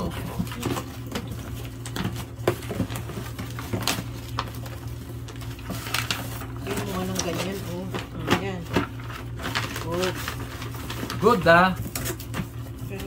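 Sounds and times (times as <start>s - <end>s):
items clattering into cardboard box: 0.0s - 13.0s.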